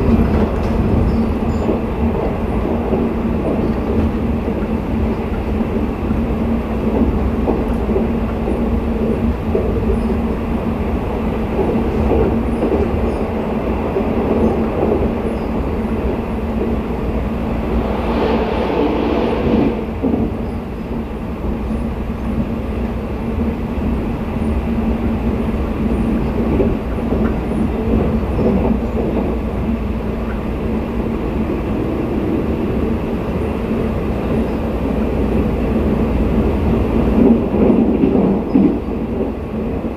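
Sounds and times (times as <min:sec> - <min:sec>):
passing train rush: 0:00.0 - 0:39.9
train rolling along rails: 0:00.0 - 0:39.9.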